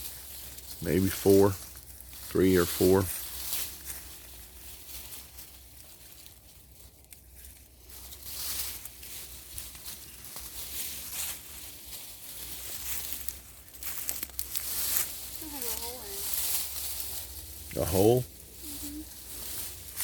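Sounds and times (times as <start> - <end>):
hands digging through wood-chip mulch: 0.0 - 20.0.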